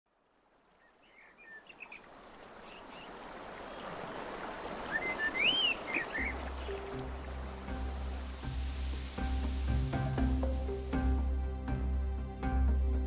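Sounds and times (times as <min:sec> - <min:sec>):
steady outdoor hiss: 0:00.1 - 0:11.8
songbirds chirping: 0:00.5 - 0:11.0.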